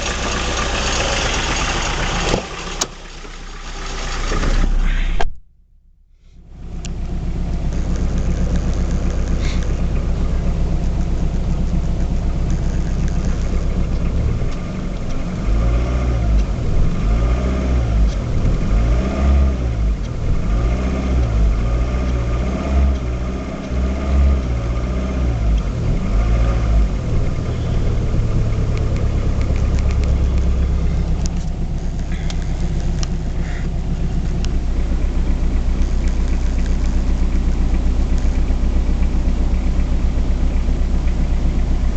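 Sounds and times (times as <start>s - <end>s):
diesel engine running: 0.0s - 5.3s, 6.2s - 41.9s
wavering pulsing engine noise: 6.6s - 41.9s.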